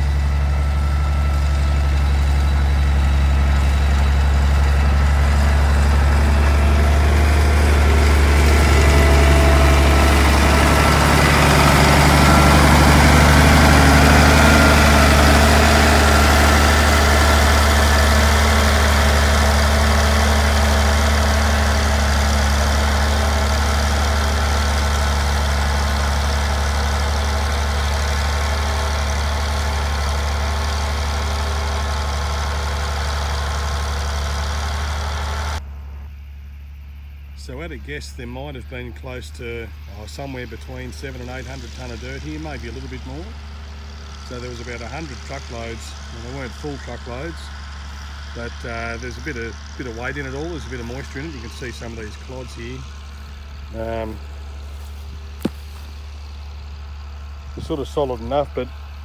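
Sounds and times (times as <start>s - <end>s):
motor grader engine running: 0.0s - 59.0s.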